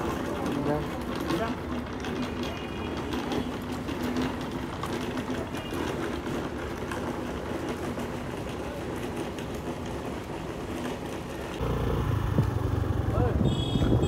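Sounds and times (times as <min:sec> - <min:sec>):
idling vehicle engines hum: 0:00.0 - 0:14.0
outdoor traffic noise: 0:00.0 - 0:14.0.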